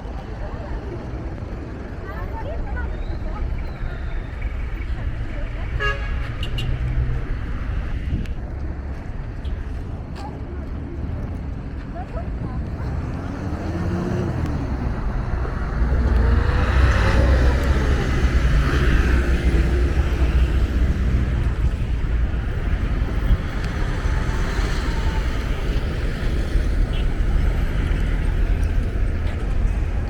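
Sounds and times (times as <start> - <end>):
low traffic rumble: 0.0 - 30.0
passing vehicle engines: 0.0 - 30.0.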